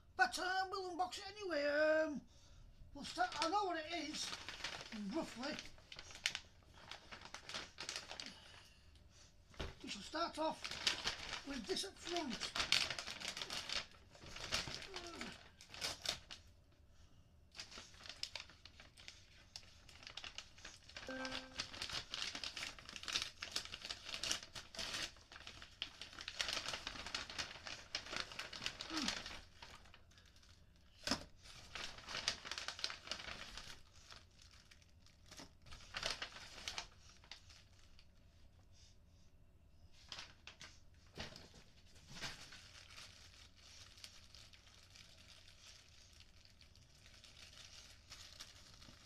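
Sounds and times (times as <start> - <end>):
packaging rustling and tearing: 3.0 - 8.5, 9.5 - 16.5, 17.5 - 38.2, 40.0 - 49.0.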